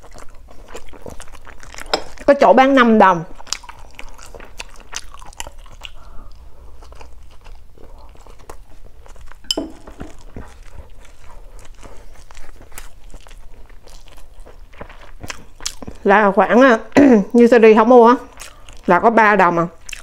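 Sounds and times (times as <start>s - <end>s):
person chewing food: 0.0s - 2.4s, 3.2s - 16.1s, 18.2s - 19.0s, 19.7s - 20.0s.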